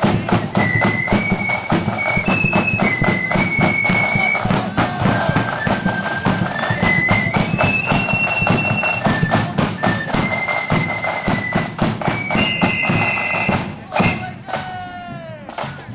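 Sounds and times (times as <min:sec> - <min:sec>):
rapid dense drumming: 0:00.0 - 0:15.9
wind instrument melody: 0:00.0 - 0:15.9.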